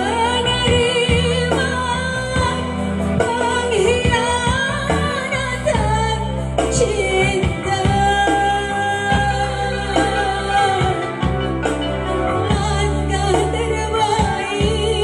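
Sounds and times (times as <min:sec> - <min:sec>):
live band music: 0:00.0 - 0:15.0
sustained bass: 0:00.0 - 0:15.0.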